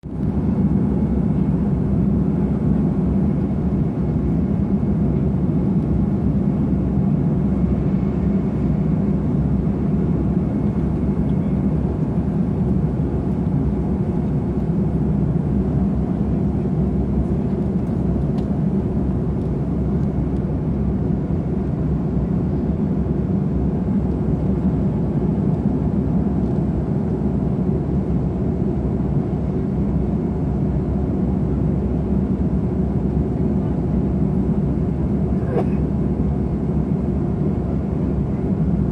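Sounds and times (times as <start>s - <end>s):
airplane engines and airflow rumble: 0.0s - 38.9s.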